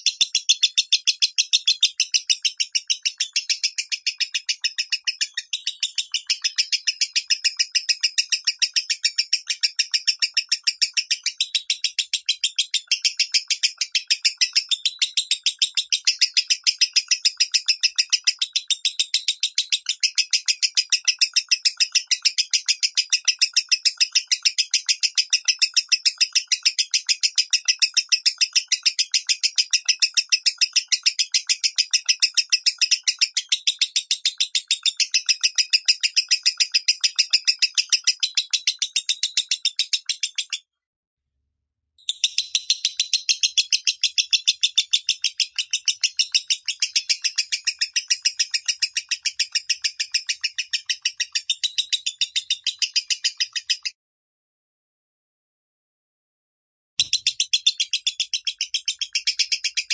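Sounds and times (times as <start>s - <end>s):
lovebird sharp high chirps: 0.0s - 40.6s, 42.0s - 54.0s, 57.0s - 59.9s.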